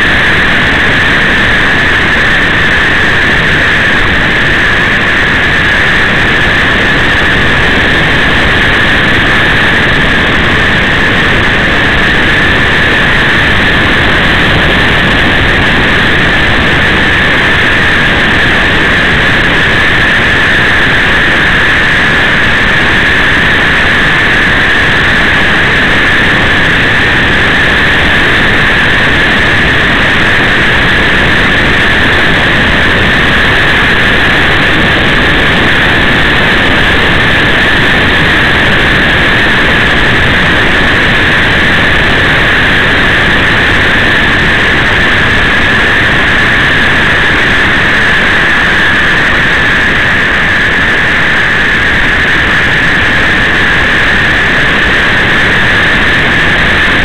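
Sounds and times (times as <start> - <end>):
loud steady hiss: 0.0 - 57.0.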